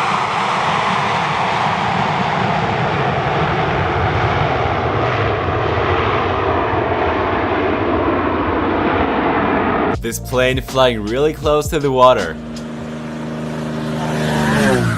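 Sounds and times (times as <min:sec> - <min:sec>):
airplane engines flying by: 0:00.0 - 0:10.0, 0:12.4 - 0:14.9.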